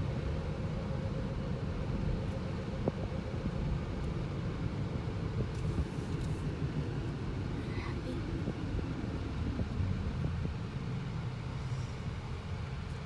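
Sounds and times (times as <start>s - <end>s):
car engine and tyre rumble: 0.1s - 13.0s.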